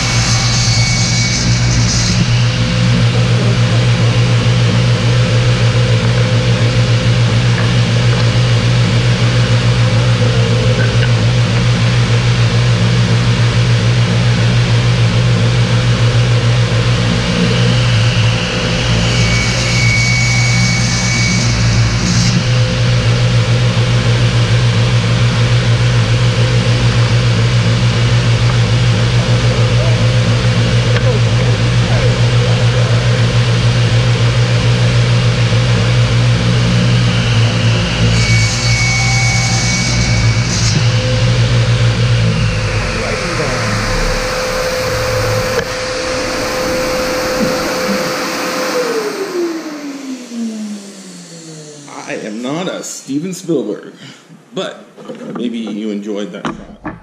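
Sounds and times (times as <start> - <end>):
table saw motor hum: 0.0 - 53.2.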